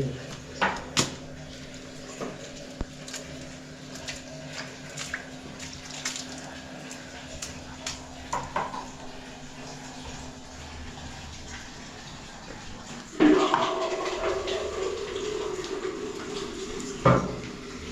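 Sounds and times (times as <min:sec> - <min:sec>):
water running or splashing: 0:00.0 - 0:17.9.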